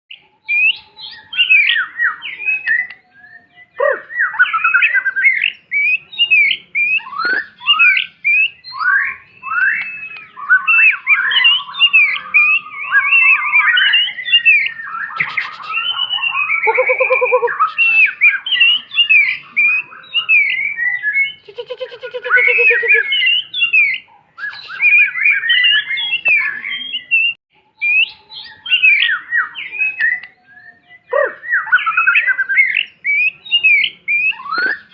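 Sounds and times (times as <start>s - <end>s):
bird singing whistled phrases: 0.1s - 34.9s.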